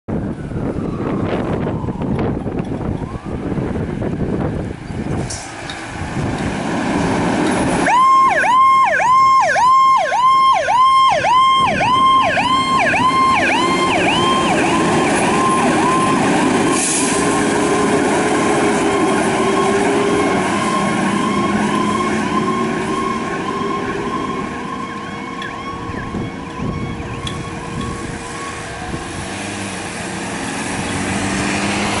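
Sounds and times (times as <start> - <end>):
fire engine siren yelping: 0.1 - 5.1, 5.7 - 32.0
truck engine rumbling: 0.1 - 32.0.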